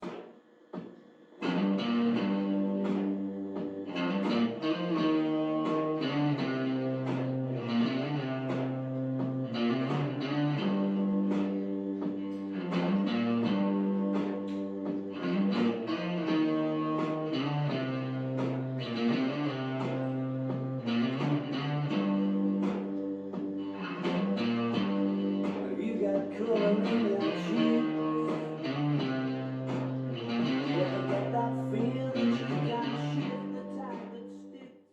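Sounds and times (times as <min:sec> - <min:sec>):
guitar ringtone tune: 0:01.4 - 0:34.2.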